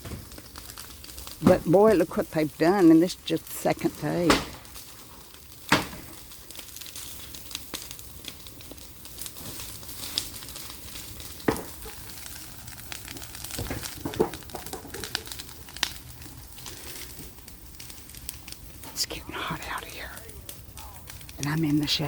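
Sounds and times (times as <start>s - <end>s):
light crackling and clicking: 0.0s - 22.0s.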